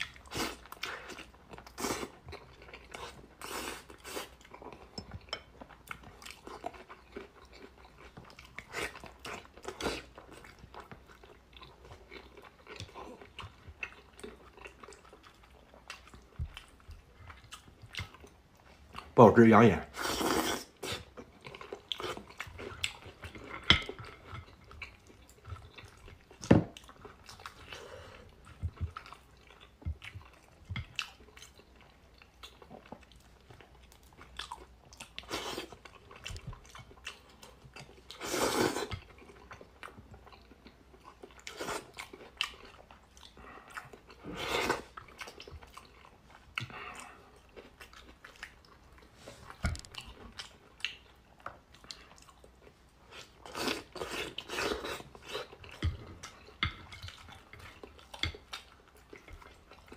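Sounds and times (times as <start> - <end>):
chewing and crunching: 0.0 - 19.2, 20.0 - 59.9.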